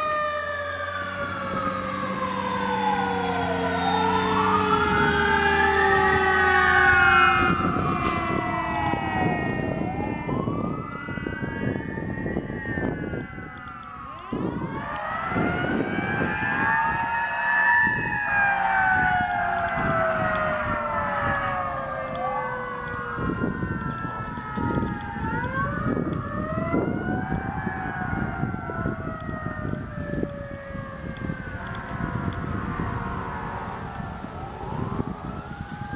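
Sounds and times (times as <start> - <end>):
fire engine sirens wailing: 0.0 - 35.9.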